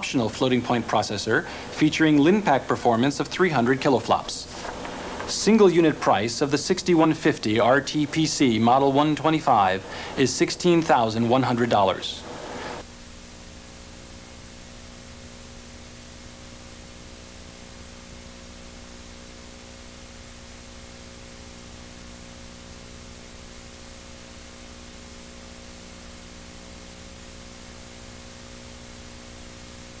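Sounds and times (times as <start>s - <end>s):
low electrical hum: 0.0s - 30.0s
tape hiss: 0.0s - 30.0s.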